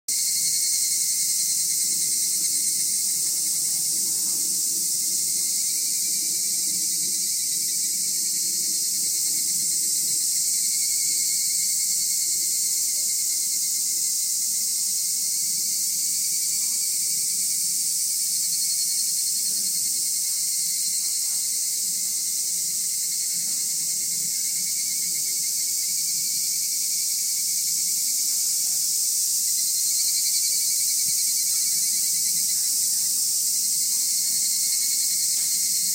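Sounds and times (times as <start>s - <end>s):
insects trilling: 0.1s - 35.9s
lower insect trill: 0.1s - 35.9s.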